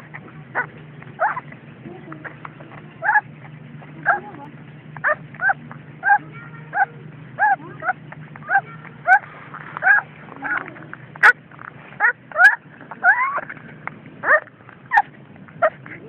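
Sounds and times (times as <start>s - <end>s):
puppy whining: 0.0s - 16.0s.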